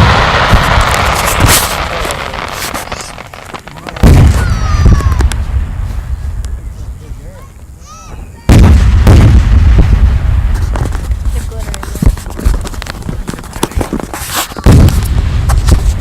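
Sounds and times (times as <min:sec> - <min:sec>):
firework booms: 0:00.0 - 0:07.2, 0:08.1 - 0:16.0
firework bangs: 0:00.0 - 0:16.0.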